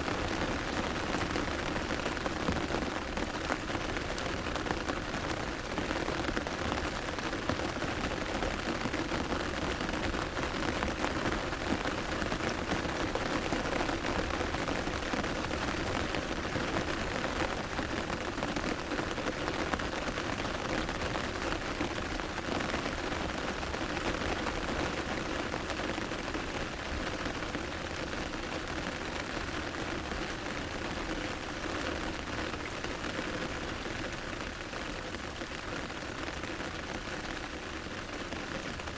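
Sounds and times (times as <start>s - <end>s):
rain pattering on an umbrella: 0.0s - 38.9s.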